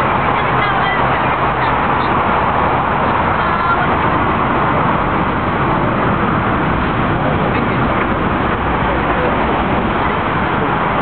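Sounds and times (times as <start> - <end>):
train departing: 0.0 - 11.0.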